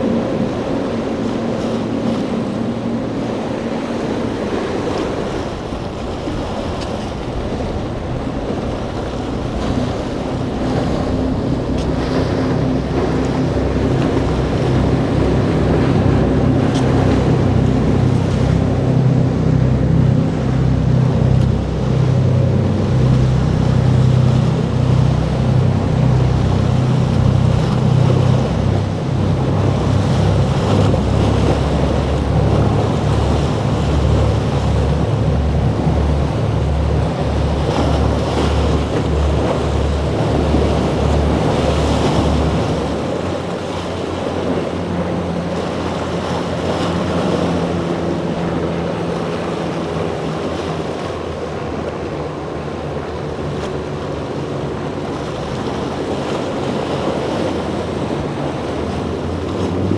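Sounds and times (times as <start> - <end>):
boat engines throbbing: 0.0 - 59.9
hull pounding through waves: 0.0 - 59.9
outboard motor humming: 0.0 - 59.9
wind buffeting microphone: 0.0 - 59.9.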